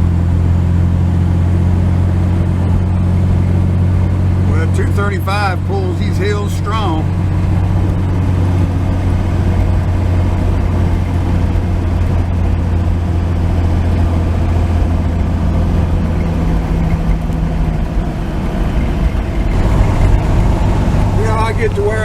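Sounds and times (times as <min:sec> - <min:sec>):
pickup engine droning under load: 0:00.0 - 0:22.0.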